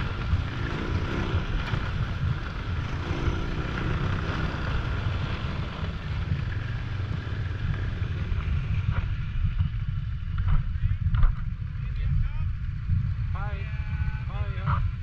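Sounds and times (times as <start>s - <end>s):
snowmobile engine rumbling: 0.0s - 15.0s
wind buffeting microphone: 0.0s - 15.0s.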